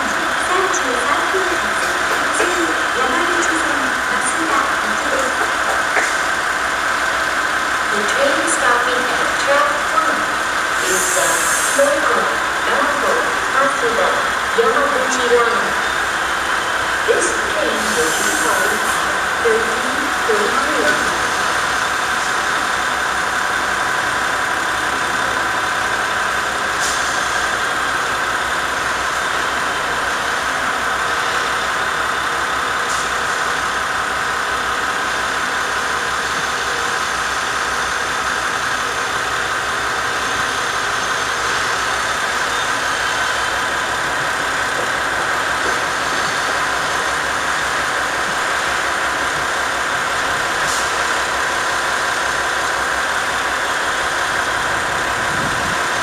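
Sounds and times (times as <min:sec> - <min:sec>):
diesel railcar engine idling: 0:00.0 - 0:56.0.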